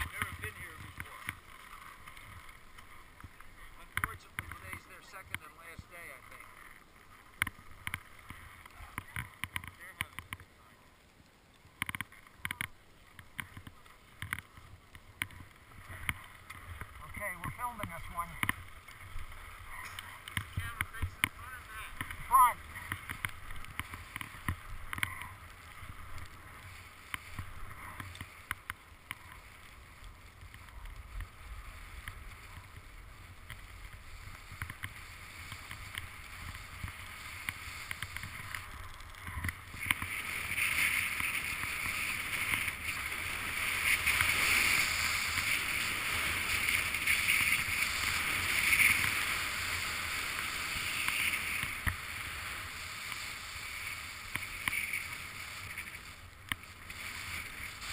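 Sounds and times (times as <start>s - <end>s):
skis sliding over snow: 0.0s - 57.9s.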